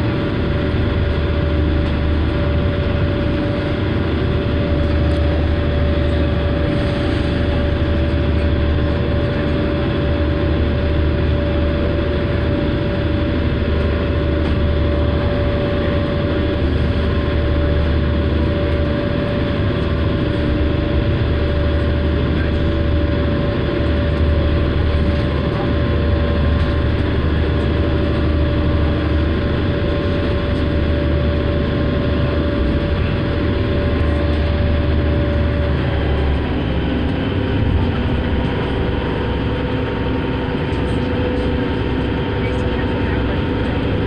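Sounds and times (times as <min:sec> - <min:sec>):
ferry engines rumbling: 0:00.0 - 0:44.0.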